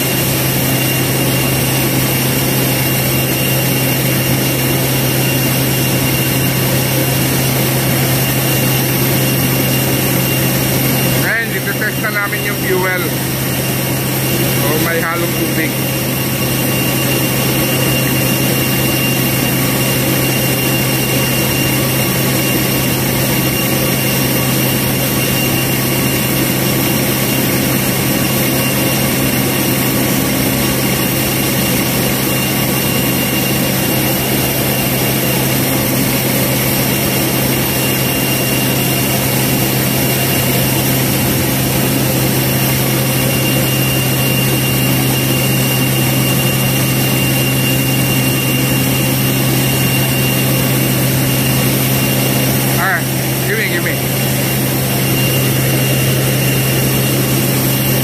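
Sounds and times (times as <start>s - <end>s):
engine drone: 0.0s - 58.0s
thin high whine: 0.0s - 58.0s.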